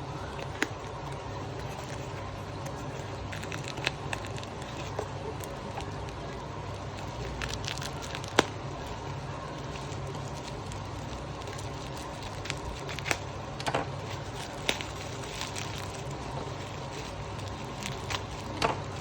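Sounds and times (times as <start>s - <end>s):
low background hum: 0.0s - 19.0s
packaging clicks and crackles: 0.0s - 19.0s.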